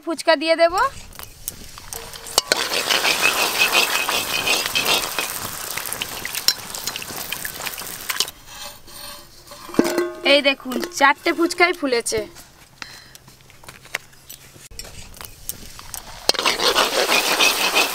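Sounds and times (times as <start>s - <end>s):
oil sizzling and crackling: 0.7s - 12.6s, 14.3s - 17.9s.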